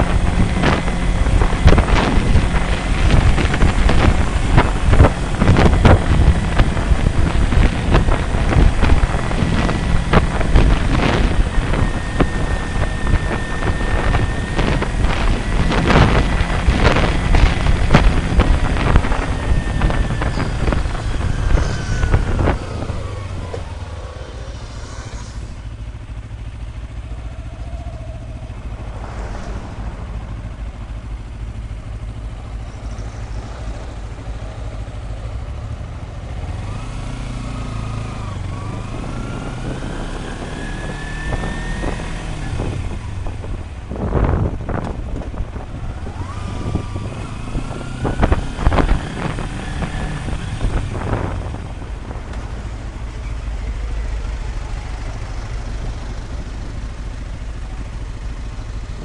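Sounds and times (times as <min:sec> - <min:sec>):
wind on microphone: 0:00.0 - 0:35.4, 0:36.6 - 0:59.0
motorcycle engine running: 0:00.0 - 0:59.0.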